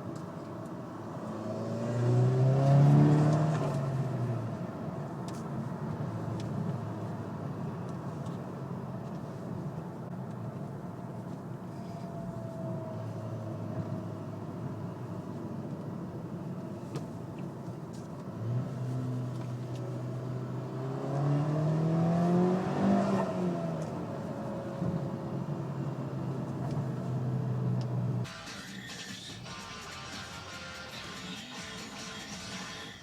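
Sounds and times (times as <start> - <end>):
car engine accelerating: 0.0 - 31.7.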